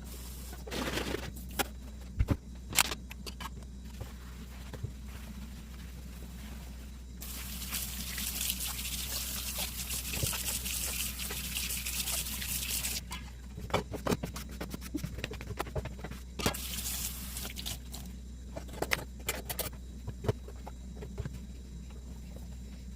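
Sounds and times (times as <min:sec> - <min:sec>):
low steady hum: 0:00.0 - 0:22.9.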